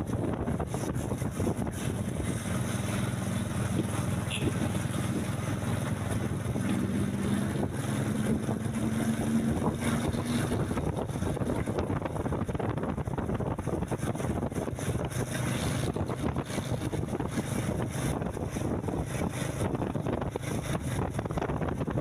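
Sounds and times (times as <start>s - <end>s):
bus diesel engine rumble: 0.0s - 22.0s
wind on microphone: 0.0s - 22.0s.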